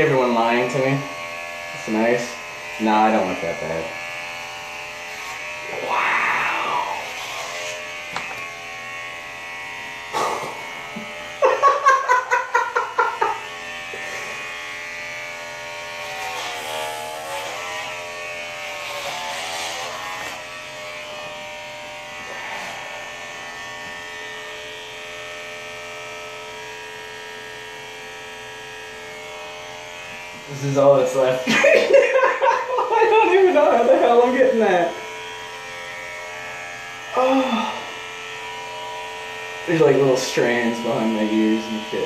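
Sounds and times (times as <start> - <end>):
hair clippers buzzing: 0.0 - 42.0.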